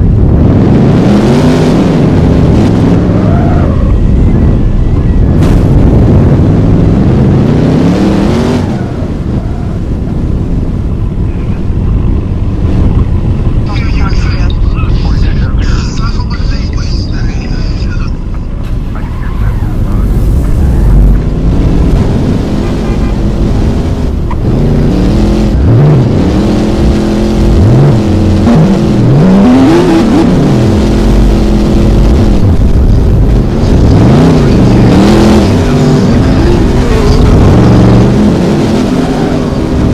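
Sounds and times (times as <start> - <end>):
car engine revving: 0.0 - 39.9
car engines idling: 0.0 - 39.9
heavy low rumble: 0.0 - 39.9.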